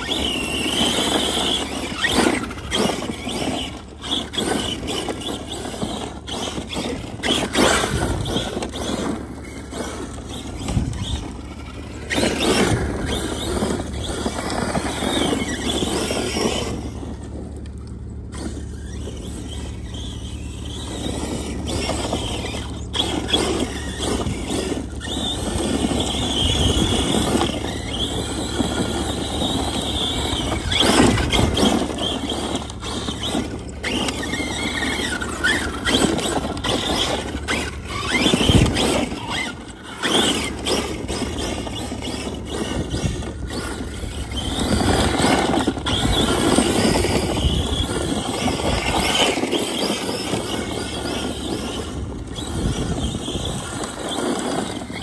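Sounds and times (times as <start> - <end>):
toy truck electric motor whining: 0.0 - 55.0.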